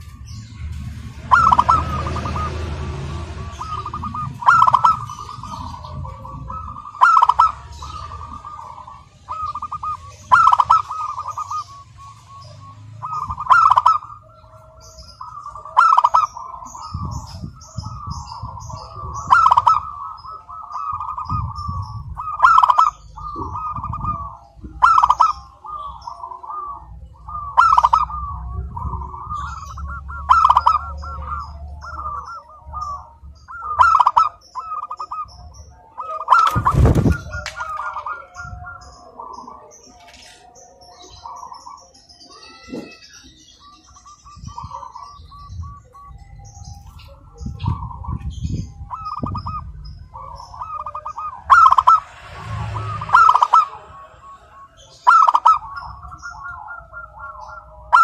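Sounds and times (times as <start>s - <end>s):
dove cooing: 1.0s - 58.0s.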